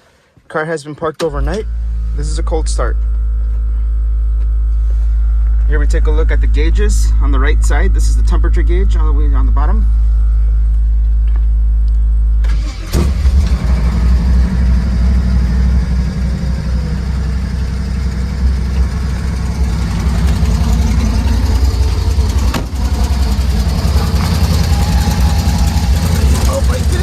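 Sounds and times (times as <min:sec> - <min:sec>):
car engine running unevenly: 0:01.3 - 0:27.0.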